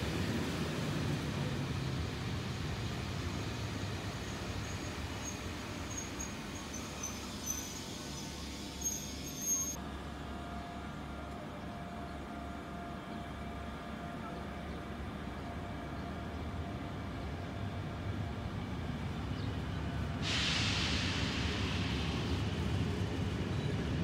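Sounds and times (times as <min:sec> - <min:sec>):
train rumbling: 0:00.0 - 0:11.3, 0:12.0 - 0:24.0.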